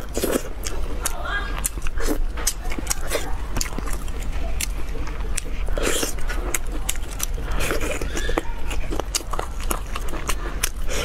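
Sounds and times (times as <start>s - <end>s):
steady low hum: 0.0s - 11.0s
wet chewing and lip smacks: 0.0s - 11.0s.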